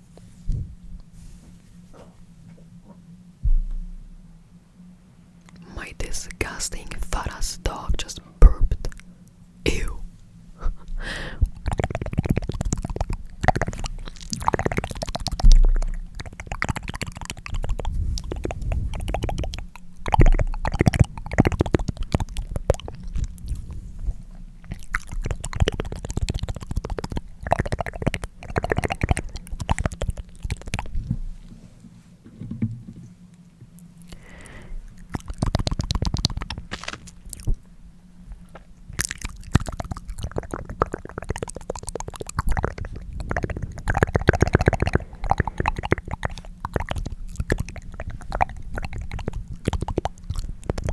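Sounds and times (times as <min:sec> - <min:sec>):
wet tongue clicks: 0:05.4 - 0:09.1, 0:09.7 - 0:31.2, 0:33.8 - 0:37.7, 0:38.9 - 0:50.9.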